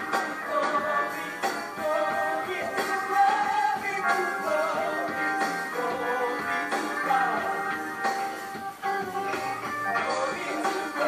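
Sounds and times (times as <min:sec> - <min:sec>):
gospel choir singing with band: 0:00.0 - 0:08.5, 0:09.9 - 0:11.0.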